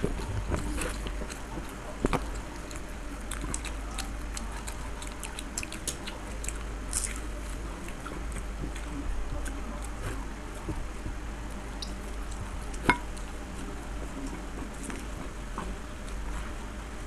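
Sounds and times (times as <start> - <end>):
chewing and biting: 0.0 - 16.8.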